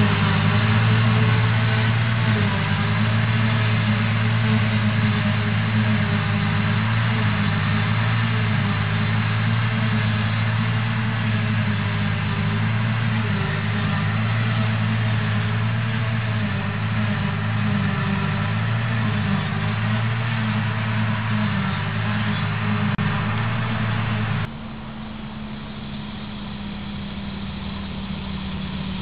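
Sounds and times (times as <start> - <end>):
forage harvester and tractor droning: 0.0 - 29.0.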